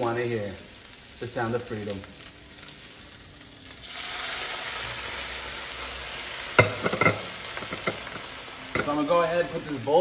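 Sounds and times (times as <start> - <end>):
greens sizzling in a wok: 0.0 - 10.0.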